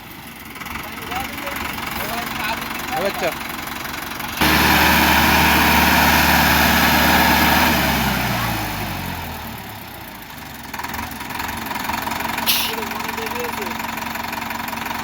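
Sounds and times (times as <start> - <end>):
tractor engine revving: 0.1 - 15.0.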